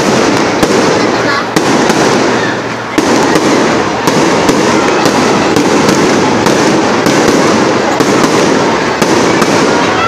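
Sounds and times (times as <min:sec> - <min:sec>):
fireworks bursting: 0:00.0 - 0:10.0
sharp firework cracks: 0:00.0 - 0:10.0.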